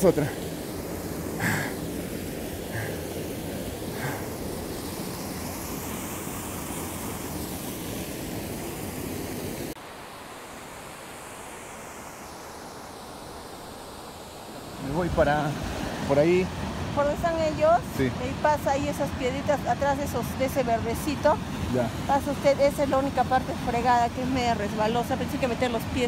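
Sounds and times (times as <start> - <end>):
small waterfall rushing: 0.0 - 26.0.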